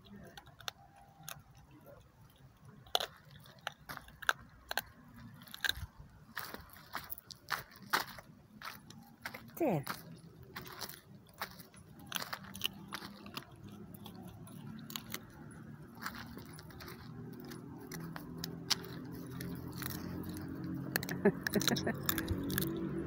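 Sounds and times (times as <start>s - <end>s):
dog gnawing a bone: 0.0s - 23.0s.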